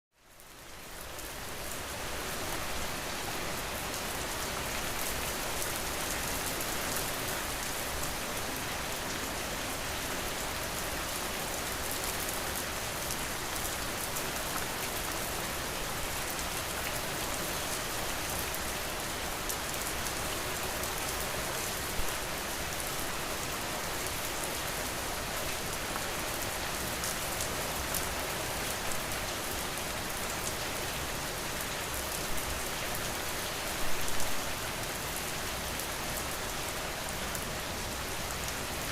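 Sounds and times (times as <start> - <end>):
steady rain falling: 0.1 - 38.9.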